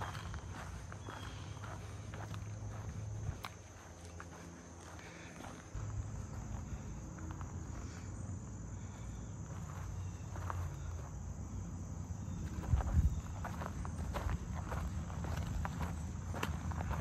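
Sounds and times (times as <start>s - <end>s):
footsteps on a trail: 0.0s - 11.4s, 12.1s - 17.0s
crickets droning: 0.0s - 17.0s.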